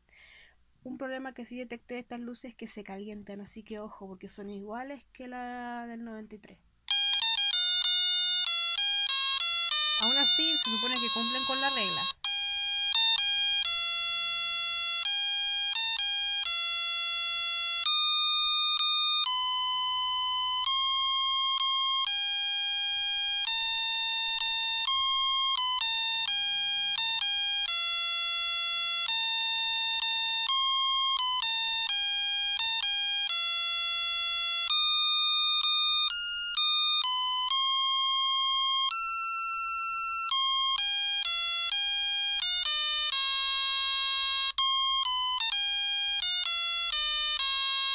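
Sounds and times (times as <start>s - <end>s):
buzzy electronic beeping melody: 6.9s - 47.9s.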